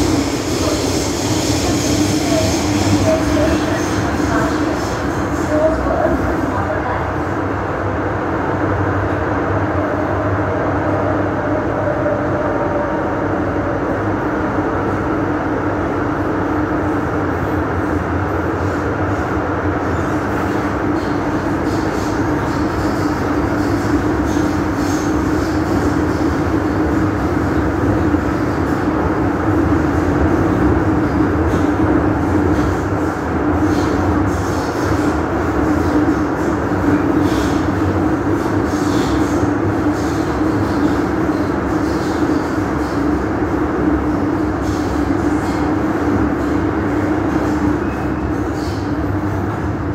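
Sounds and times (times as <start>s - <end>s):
train wheels rumbling on track: 0.0s - 49.9s.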